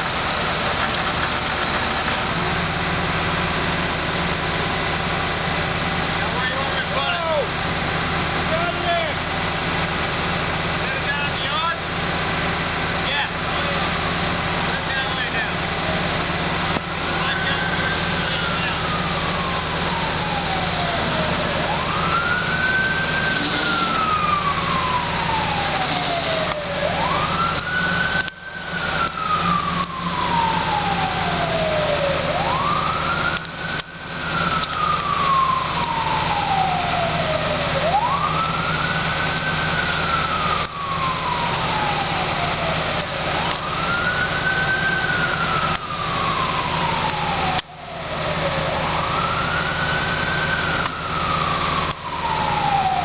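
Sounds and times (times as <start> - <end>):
steady engine hum: 0.0 - 53.0
siren wailing: 1.5 - 53.0.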